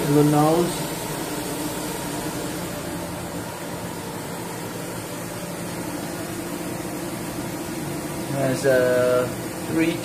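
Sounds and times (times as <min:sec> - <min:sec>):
fan-like hum and hiss: 0:00.0 - 0:10.0.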